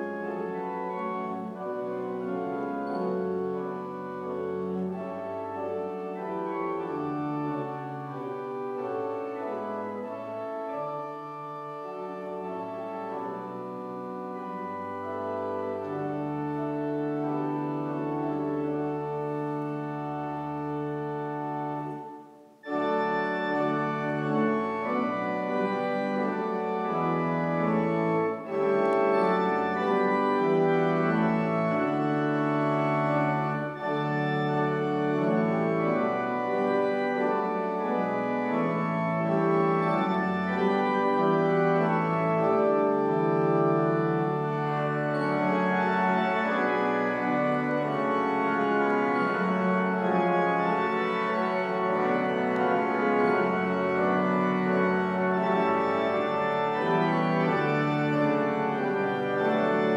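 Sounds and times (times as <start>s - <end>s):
church organ playing a hymn: 0.0s - 59.9s.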